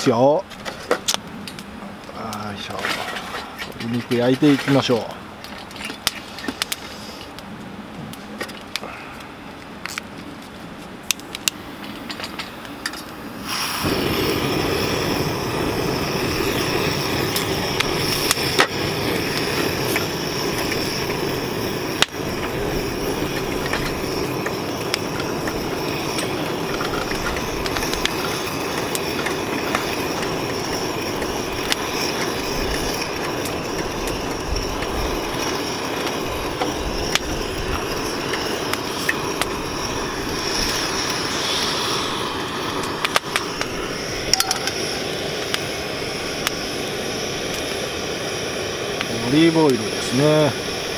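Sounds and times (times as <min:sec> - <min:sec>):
gas burner hissing: 0:00.0 - 0:50.9.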